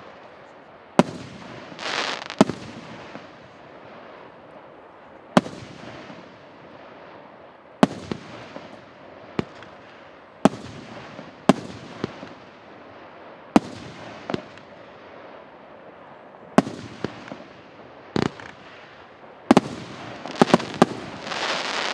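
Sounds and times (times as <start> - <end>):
fireworks bangs with hiss: 0.0 - 21.9.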